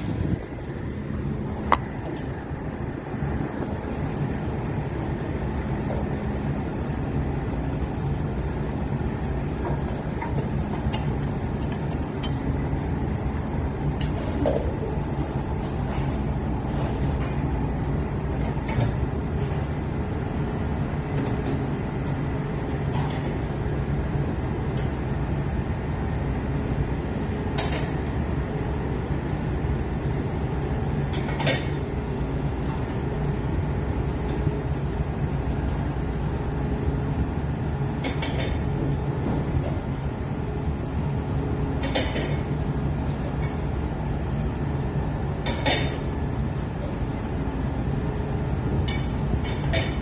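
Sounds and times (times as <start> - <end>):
ship engines droning: 0.0 - 50.0.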